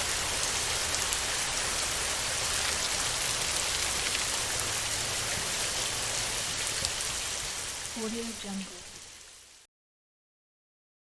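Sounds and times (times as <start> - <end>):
heavy rain on a tin roof: 0.0 - 9.6.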